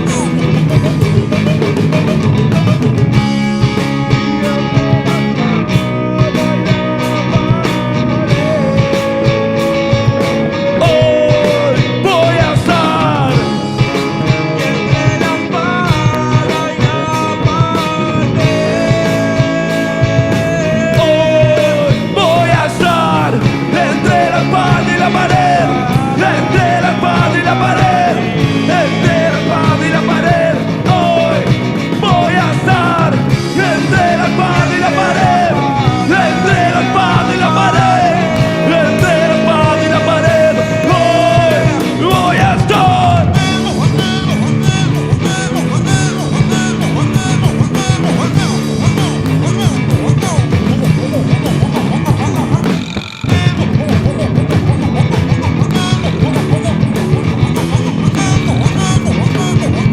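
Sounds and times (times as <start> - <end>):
lead electric guitar bending: 0.0 - 59.9
rock band playing live: 0.0 - 59.9.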